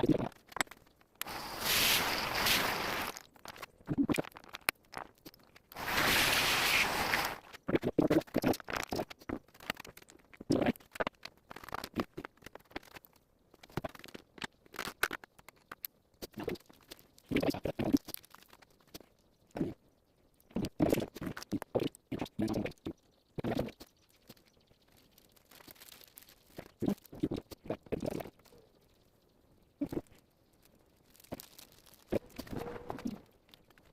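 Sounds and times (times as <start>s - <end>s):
small hard objects clicking and scraping: 0.0s - 29.1s, 29.8s - 33.9s.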